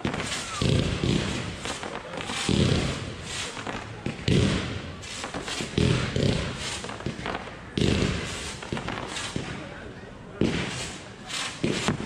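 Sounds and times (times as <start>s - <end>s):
heavy firework thumps: 0.0s - 9.7s, 10.4s - 12.0s
fireworks fizzing and crackling: 0.0s - 12.0s.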